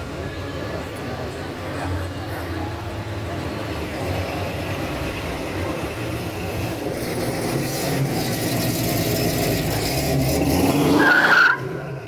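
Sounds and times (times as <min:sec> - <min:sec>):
broad noise: 0:00.0 - 0:12.0
vehicle engine rumbling: 0:00.0 - 0:12.0.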